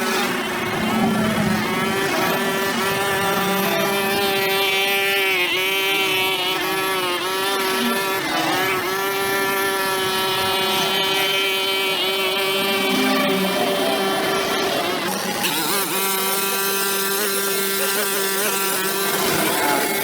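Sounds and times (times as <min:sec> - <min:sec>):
brush cutter engine: 0:00.0 - 0:20.0.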